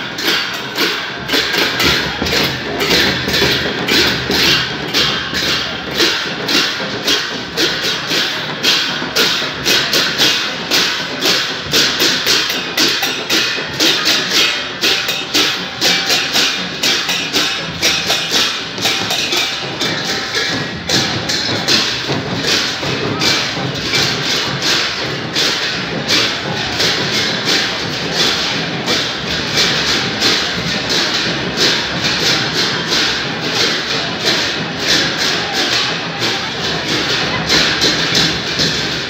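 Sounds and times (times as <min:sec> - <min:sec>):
cymbals clashing: 0:00.0 - 0:39.0
drums beating: 0:00.0 - 0:39.0.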